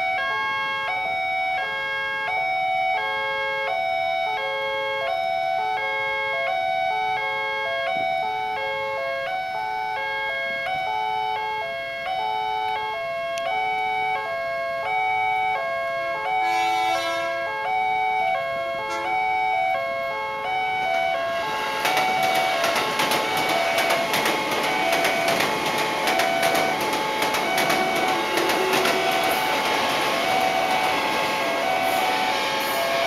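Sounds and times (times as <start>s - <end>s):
level crossing alarm tones: 0.0s - 33.0s.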